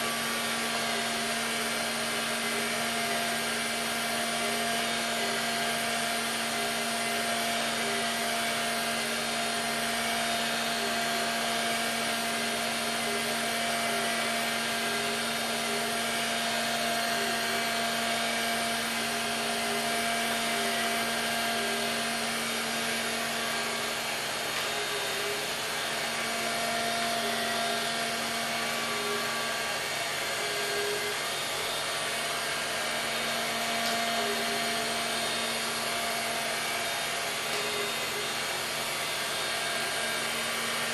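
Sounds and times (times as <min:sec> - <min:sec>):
robotic vacuum cleaner motor hum: 0:00.0 - 0:40.9.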